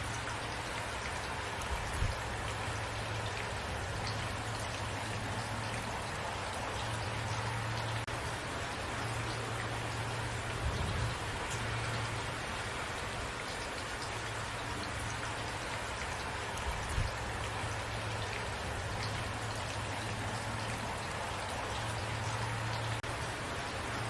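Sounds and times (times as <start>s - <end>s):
raindrops ticking on surface: 0.0s - 24.0s
steady rain: 0.0s - 24.0s.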